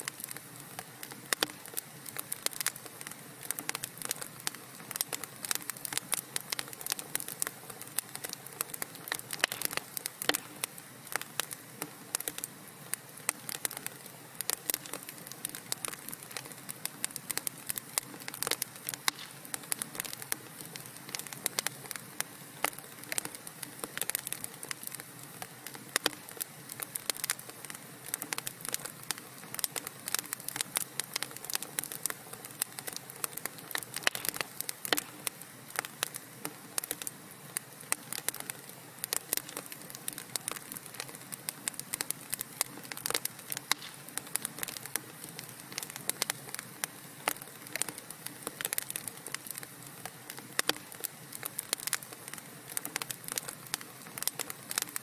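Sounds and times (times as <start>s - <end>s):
burning logs popping and snapping: 0.0s - 55.0s
soft hiss of fire: 0.0s - 55.0s.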